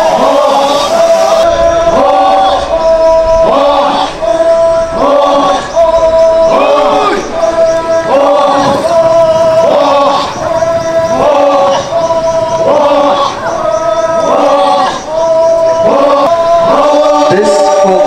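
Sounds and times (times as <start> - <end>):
men chanting: 0.0 - 18.0.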